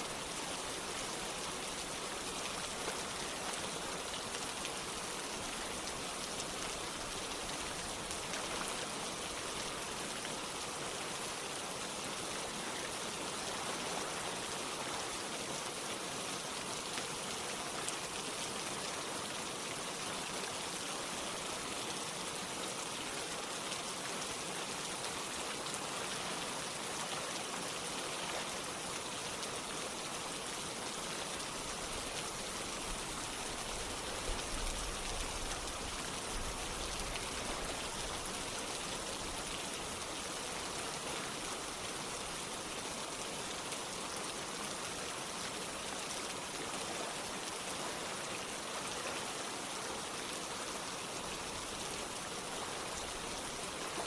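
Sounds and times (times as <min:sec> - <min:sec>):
running water: 0:00.0 - 0:54.0
steady rain falling: 0:00.0 - 0:54.0.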